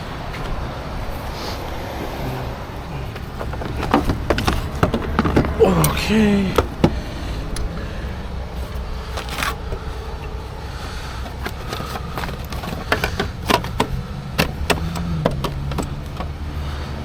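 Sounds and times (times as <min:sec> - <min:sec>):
steady low rumble: 0:00.0 - 0:17.0
hard objects clicking and knocking: 0:02.8 - 0:17.0.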